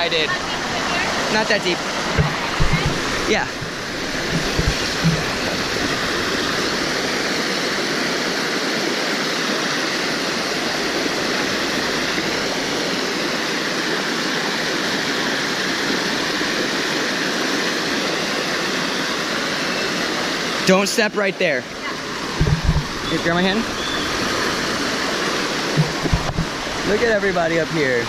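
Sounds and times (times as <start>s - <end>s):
waterfall rushing over rocks: 0.0s - 28.0s.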